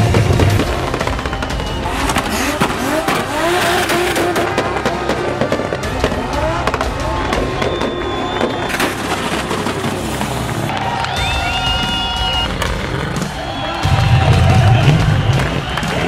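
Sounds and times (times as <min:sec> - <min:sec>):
car engine revving: 0:00.0 - 0:16.0
exhaust pops crackling: 0:00.0 - 0:16.0.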